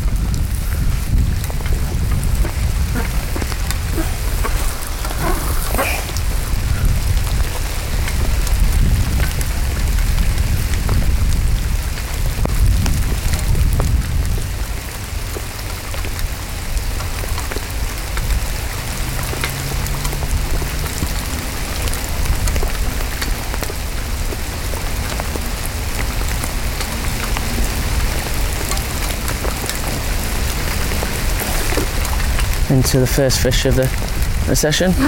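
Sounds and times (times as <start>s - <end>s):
heavy rain falling: 0.0s - 35.0s
raindrops ticking on plastic: 0.0s - 35.0s.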